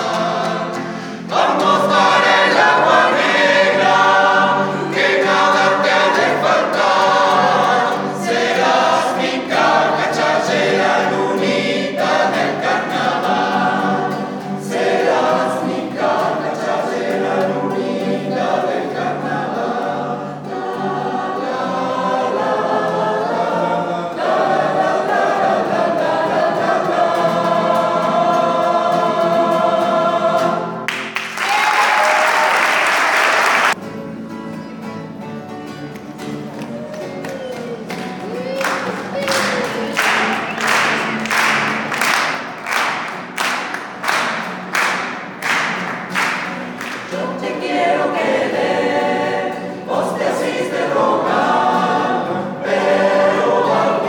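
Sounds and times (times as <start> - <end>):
male choir singing: 0.0 - 30.9, 38.7 - 54.0
acoustic guitar: 0.0 - 31.4, 33.7 - 54.0.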